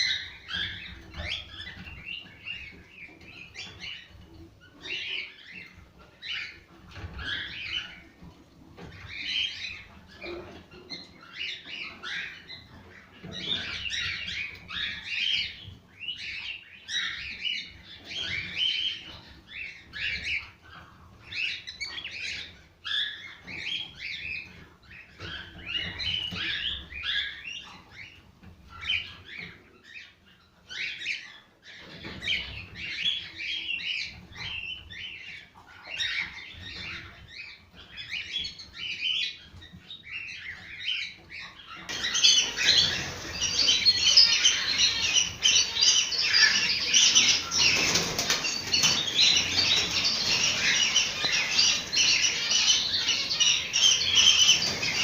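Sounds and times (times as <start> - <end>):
cockatiels chirping and calling: 0.0 - 55.0.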